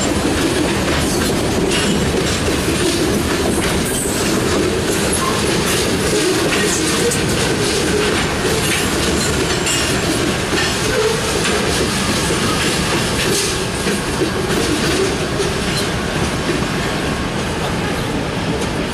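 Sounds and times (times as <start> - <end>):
train wheels rumbling on track: 0.0 - 18.9.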